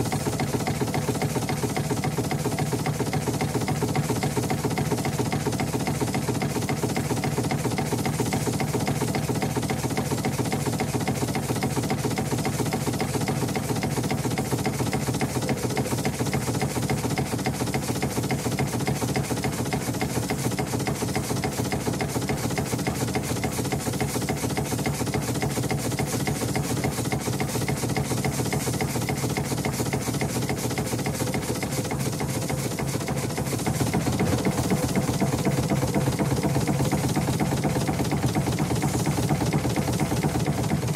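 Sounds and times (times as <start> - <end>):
steam engine running: 0.0 - 40.9.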